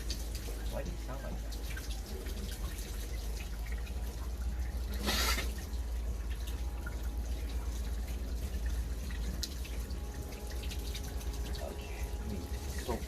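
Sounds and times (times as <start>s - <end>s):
water dripping: 0.0s - 13.0s
water running from a tap: 0.0s - 13.0s.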